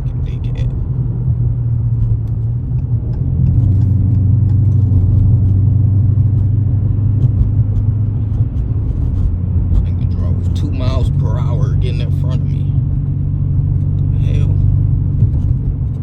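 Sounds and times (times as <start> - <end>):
car engine rumbling while driving: 0.0 - 16.0.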